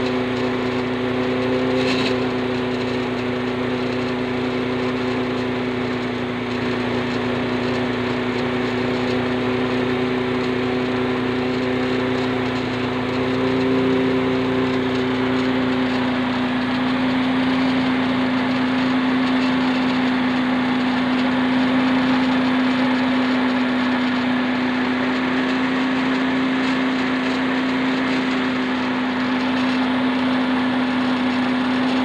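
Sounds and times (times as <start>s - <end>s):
rice milling machine humming: 0.0s - 32.0s.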